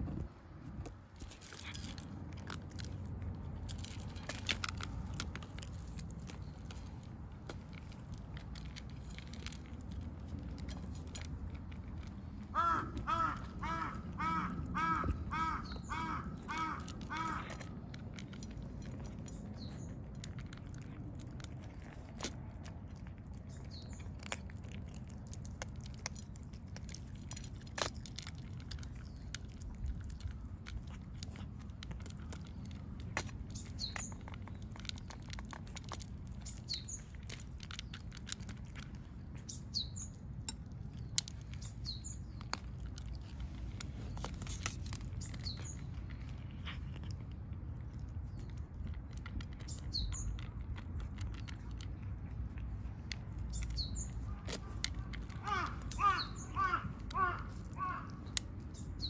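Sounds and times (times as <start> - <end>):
low outdoor rumble: 0.0 - 59.0
sharp clicks and crunches: 0.0 - 59.0
small birds chirping: 3.8 - 59.0.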